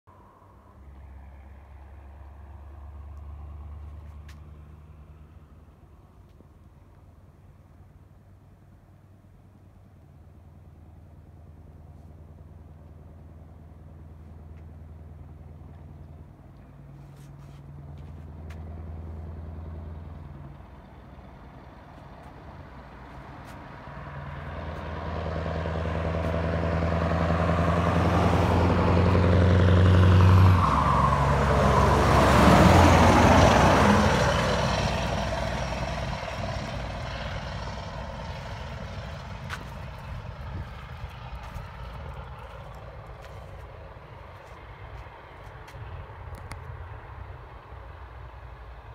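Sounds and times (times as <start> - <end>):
truck engine passing by: 0.6 - 6.0, 13.2 - 48.9.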